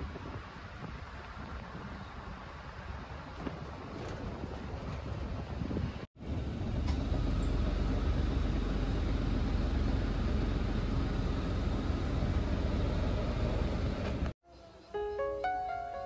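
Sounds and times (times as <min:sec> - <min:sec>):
low outdoor rumble: 0:00.0 - 0:14.4.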